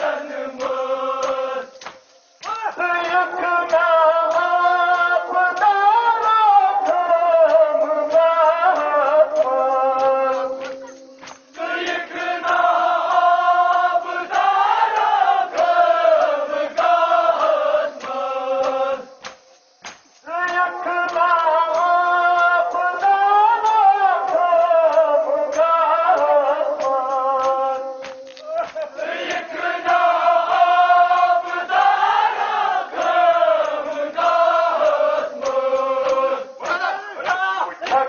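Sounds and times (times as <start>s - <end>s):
group of voices chanting a lament: 0.0s - 19.4s, 20.2s - 38.0s.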